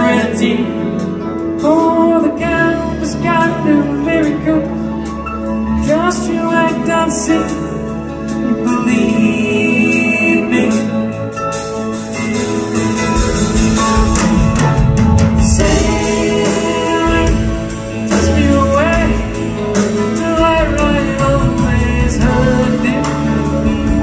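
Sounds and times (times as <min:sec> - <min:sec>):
drums: 0:00.0 - 0:24.0
electric guitar: 0:00.0 - 0:24.0
keyboards: 0:00.0 - 0:24.0
person singing: 0:00.0 - 0:24.0.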